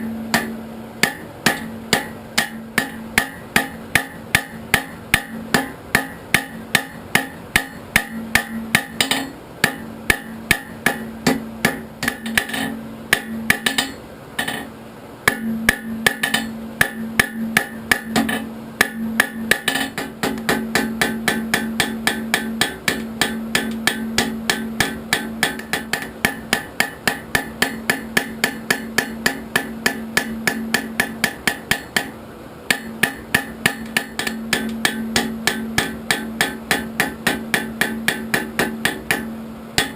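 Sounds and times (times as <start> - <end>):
hammer striking steel on anvil: 0.0 - 14.7, 15.3 - 39.9.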